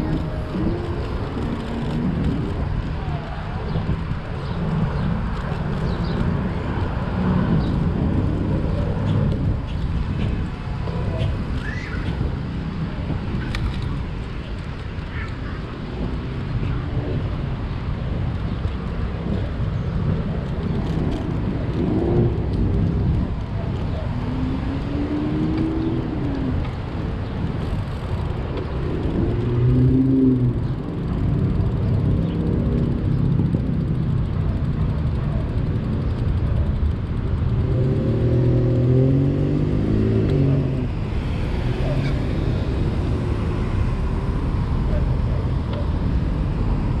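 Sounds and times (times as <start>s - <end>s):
steady low rumble: 0.0s - 47.0s
vehicles passing on street: 0.0s - 47.0s.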